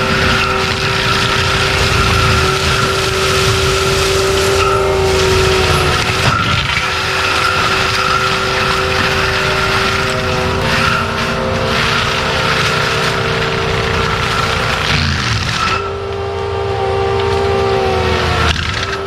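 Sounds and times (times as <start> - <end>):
high whine of mulcher drum: 0.0 - 16.2
machine engine: 0.0 - 19.0.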